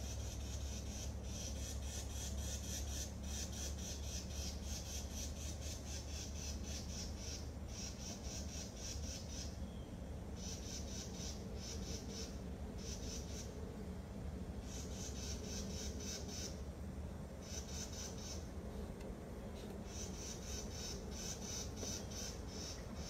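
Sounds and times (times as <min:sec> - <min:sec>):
insects chirping: 0:00.0 - 0:18.7, 0:19.6 - 0:23.0.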